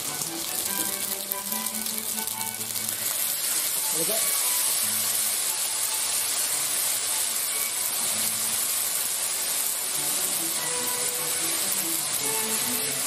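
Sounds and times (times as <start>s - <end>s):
pasta sizzling in oil: 0.0s - 13.0s
soft background music: 0.0s - 13.0s.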